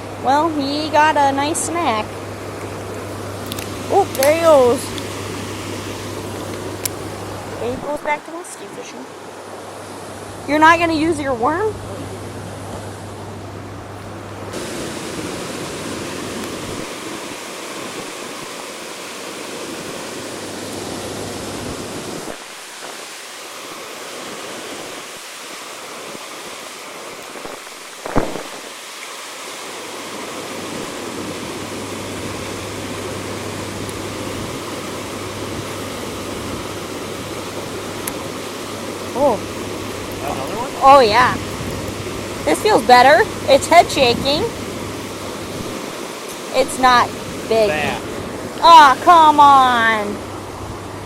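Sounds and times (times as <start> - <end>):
river water flowing: 0.0 - 51.0.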